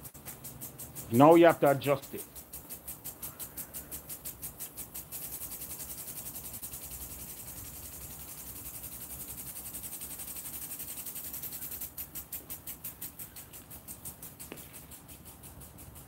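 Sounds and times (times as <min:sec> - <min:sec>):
lawn sprinkler ticking: 0:00.0 - 0:16.0.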